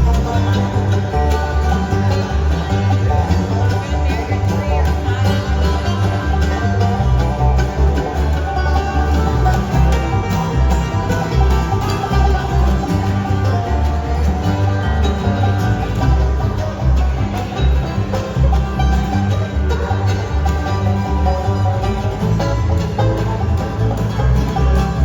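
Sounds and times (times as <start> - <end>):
live band playing: 0.0 - 25.0
plucked strings: 0.0 - 25.0
pulsing bass: 0.0 - 25.0.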